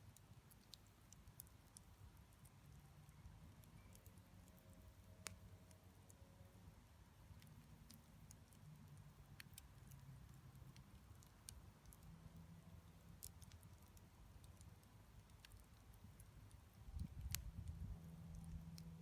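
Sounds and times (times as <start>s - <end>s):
faint campfire crackling: 0.0s - 19.0s
low steady fire rumble: 0.0s - 19.0s.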